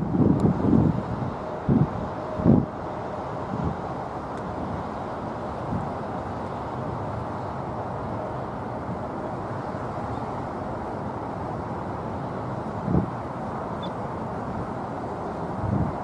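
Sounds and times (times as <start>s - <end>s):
distant jet engine roar: 0.0s - 16.0s.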